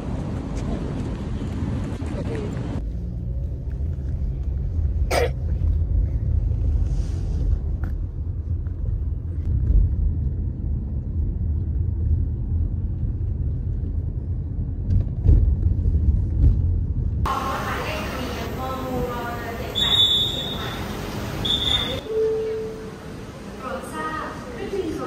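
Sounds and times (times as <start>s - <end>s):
vehicle rumble: 0.0s - 23.8s.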